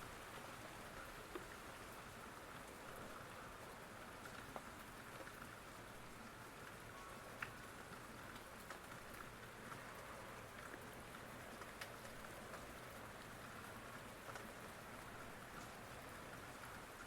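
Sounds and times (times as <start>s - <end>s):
faint rain: 0.0s - 17.0s
raindrops ticking on a surface: 0.0s - 17.0s.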